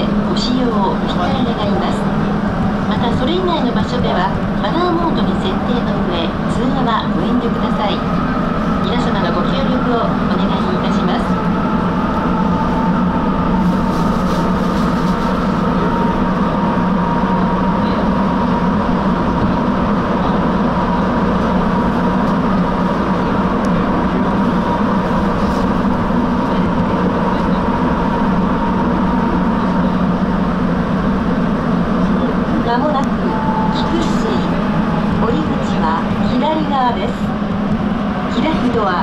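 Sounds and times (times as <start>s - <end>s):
subway train rumbling: 0.0s - 39.0s.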